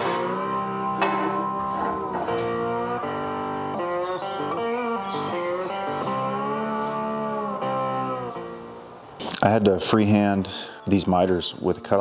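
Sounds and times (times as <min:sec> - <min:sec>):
guitar playing slow chords: 0:00.0 - 0:11.7.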